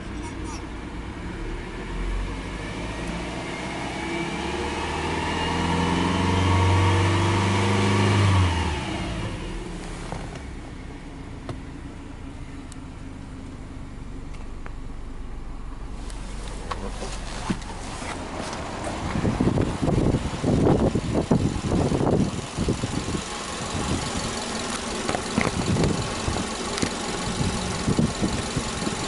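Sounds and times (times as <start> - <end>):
car engine revving and idling: 0.0 - 29.0.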